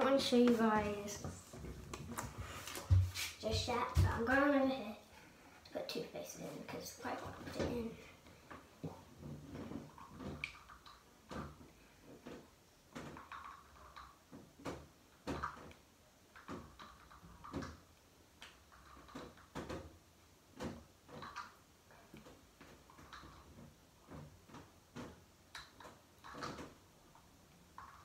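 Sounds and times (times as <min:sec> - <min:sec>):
faint knocks and light clatters: 0:00.0 - 0:28.0.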